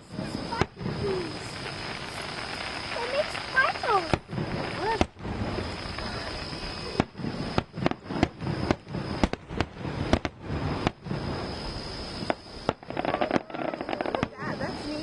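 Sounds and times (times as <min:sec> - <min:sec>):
fireworks bangs: 0:00.0 - 0:15.0
fireworks rumbling: 0:00.0 - 0:15.0.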